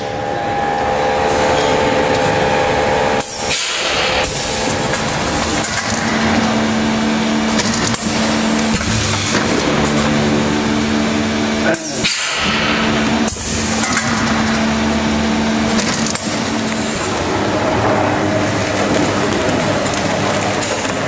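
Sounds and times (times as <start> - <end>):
bagging machine clattering: 1.1 - 21.0.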